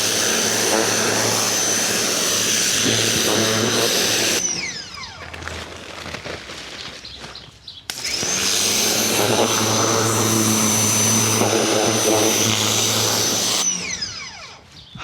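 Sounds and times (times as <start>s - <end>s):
pressure washer motor whine: 0.0s - 5.4s, 7.9s - 15.0s.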